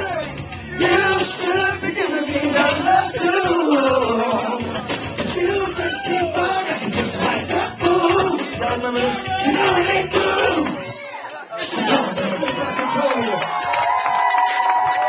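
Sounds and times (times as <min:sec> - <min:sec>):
man singing into microphone: 0:00.0 - 0:10.9, 0:11.6 - 0:13.0.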